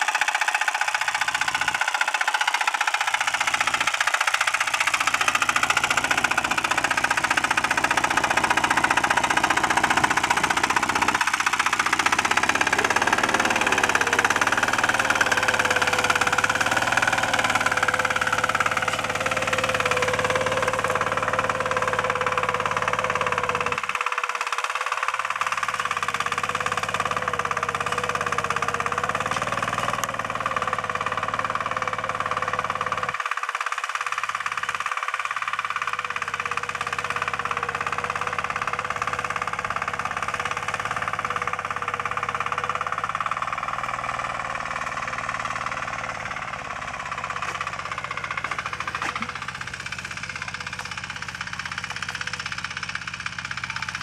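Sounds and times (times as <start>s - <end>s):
single-cylinder engine under load: 0.0s - 54.0s.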